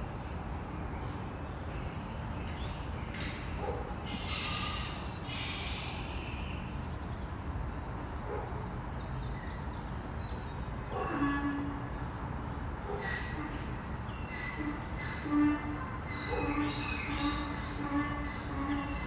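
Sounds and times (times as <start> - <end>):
insect drone: 0.0 - 19.0.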